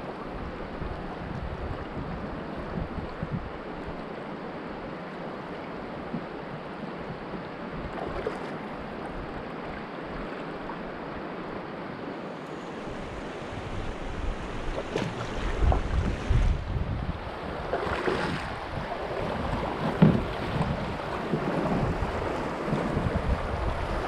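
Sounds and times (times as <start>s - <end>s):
river water rushing: 3.5s - 24.0s.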